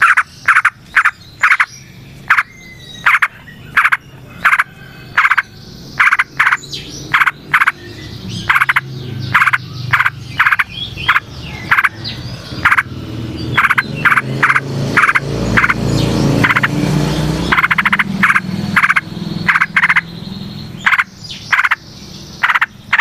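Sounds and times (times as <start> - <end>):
frogs croaking: 0.0 - 23.0
warbling bird song: 0.0 - 23.0.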